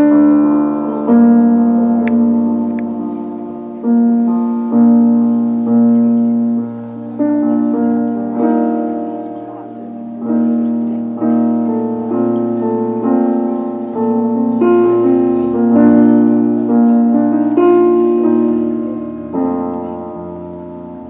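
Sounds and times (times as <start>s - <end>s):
keyboard playing slow chords: 0.0s - 21.0s.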